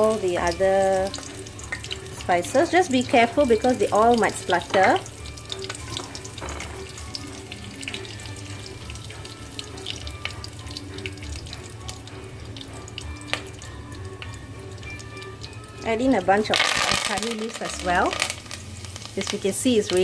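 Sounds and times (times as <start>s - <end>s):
oil popping: 0.0s - 20.0s
spices frying in hot oil: 0.0s - 20.0s.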